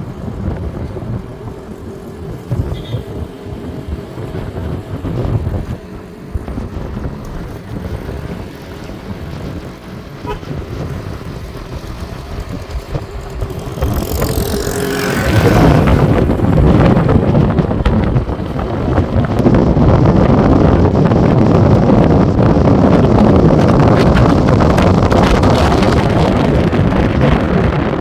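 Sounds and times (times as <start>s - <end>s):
road noise: 0.0s - 28.0s
vehicle engine rumble: 0.0s - 28.0s.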